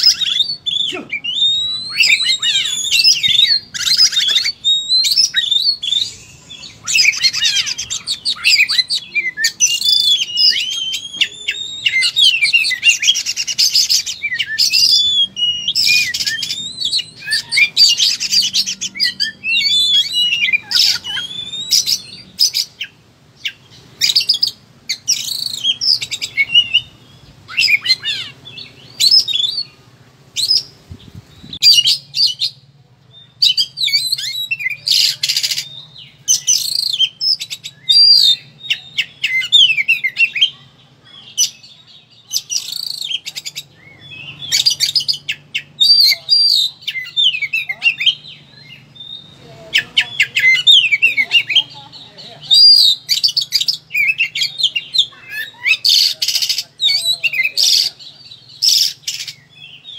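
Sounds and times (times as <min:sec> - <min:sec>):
magpie-robin singing: 0:00.0 - 0:59.9.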